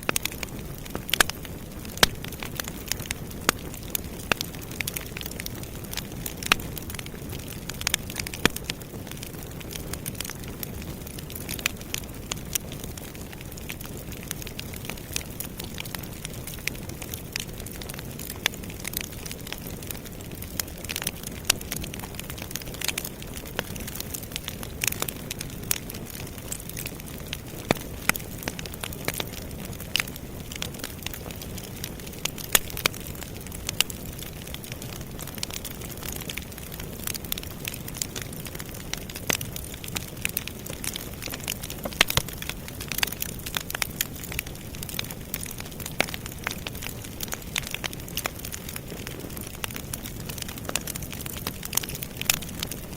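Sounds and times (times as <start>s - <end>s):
burning wood crackling and popping: 0.0s - 52.9s
low rumble of campfire: 0.0s - 52.9s.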